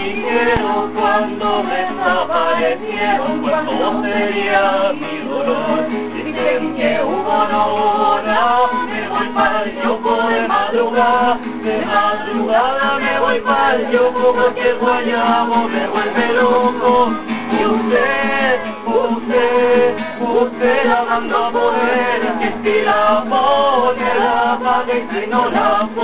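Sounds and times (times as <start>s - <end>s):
person singing: 0.0s - 26.0s
strummed acoustic guitar: 0.0s - 26.0s.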